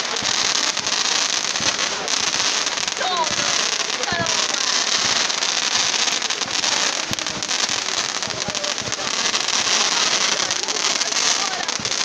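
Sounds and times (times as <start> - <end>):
deep firework bangs: 0.0 - 12.0
fireworks crackling: 0.0 - 12.0.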